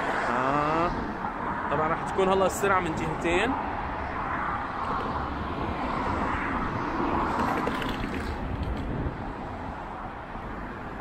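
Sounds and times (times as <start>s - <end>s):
road noise hiss: 0.0s - 11.0s.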